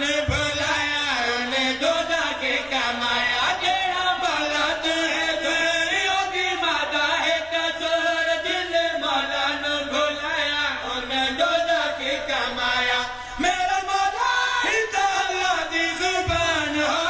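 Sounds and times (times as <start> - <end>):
person chanting devotional poem: 0.0 - 17.0.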